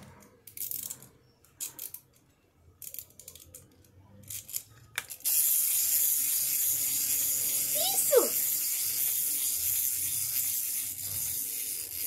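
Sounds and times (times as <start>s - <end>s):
plastic toys clicking on tile: 0.0s - 12.0s.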